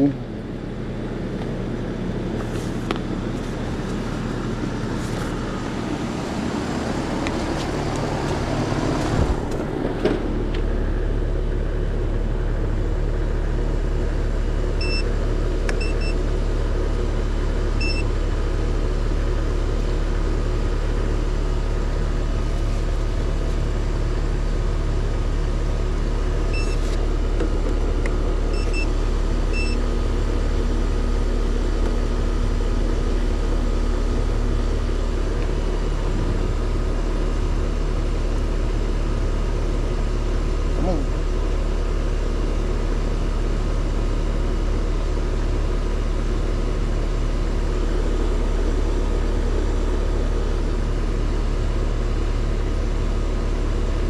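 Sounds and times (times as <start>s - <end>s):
heat pump low hum: 0.0s - 54.0s.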